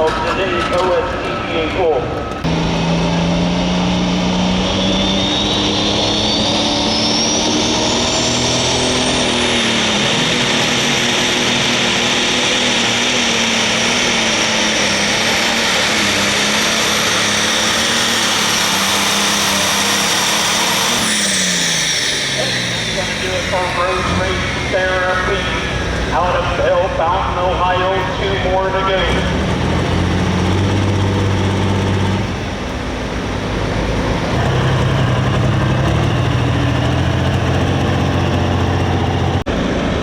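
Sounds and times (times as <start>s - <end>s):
high turbo whine: 0.0s - 40.0s
tractor engine at full power: 0.0s - 40.0s.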